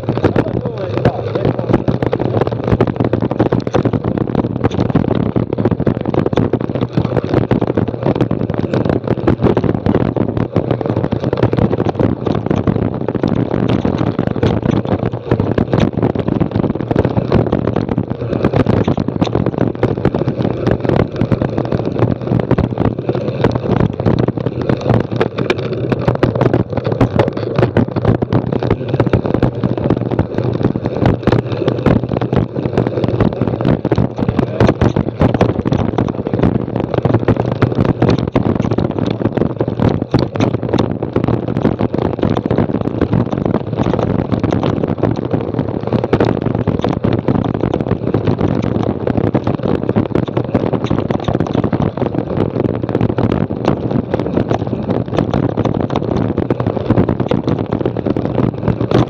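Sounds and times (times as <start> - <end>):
bike rattling over rough ground: 0.0 - 59.0
wind buffeting microphone: 0.0 - 59.0.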